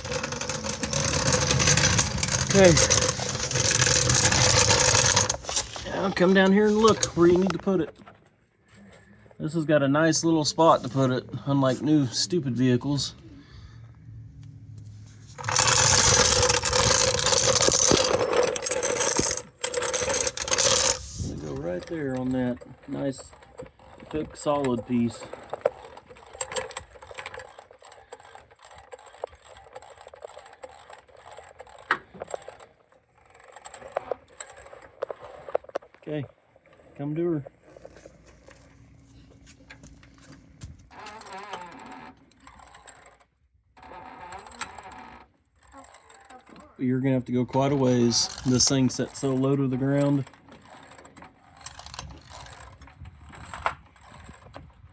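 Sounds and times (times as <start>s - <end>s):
floor jack wheels rattling and scraping: 0.0s - 8.2s, 15.0s - 43.2s, 43.8s - 54.9s.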